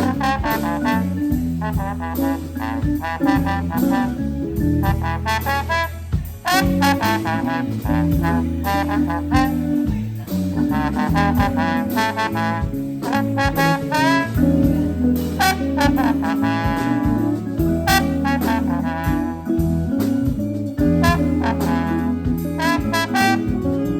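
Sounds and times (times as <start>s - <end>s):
band playing jazz tune: 0.0s - 23.9s.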